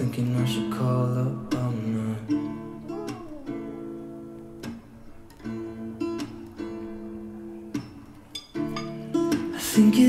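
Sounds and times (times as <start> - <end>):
pop song with acoustic guitar: 0.0 - 10.0.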